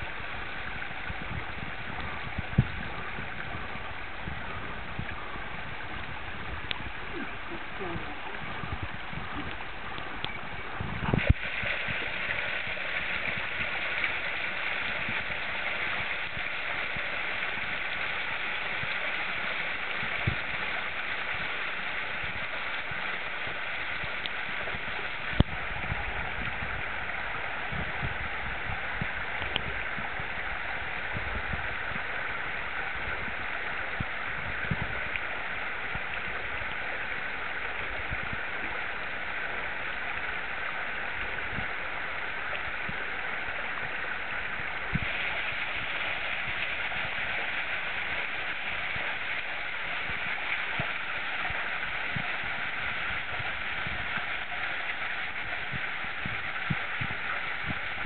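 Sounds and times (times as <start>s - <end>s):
stream rushing over rock: 0.0s - 58.0s.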